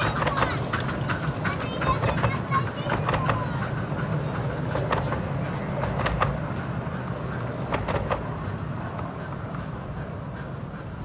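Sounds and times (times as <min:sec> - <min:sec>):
train coaches rumbling past: 0:00.0 - 0:11.0
wheels clicking over rail joints: 0:00.0 - 0:11.0.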